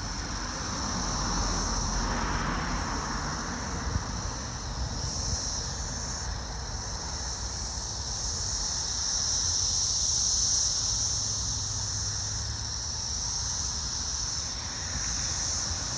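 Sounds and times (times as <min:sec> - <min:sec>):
cicadas droning: 0:00.0 - 0:15.9.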